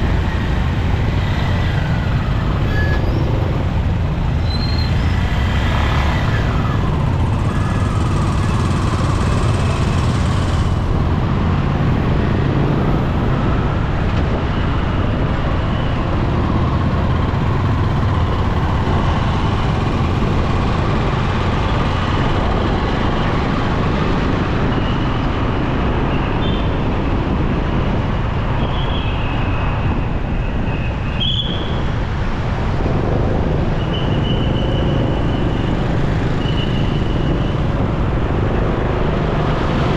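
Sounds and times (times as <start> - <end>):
motorcycle riding in traffic: 0.0 - 39.9.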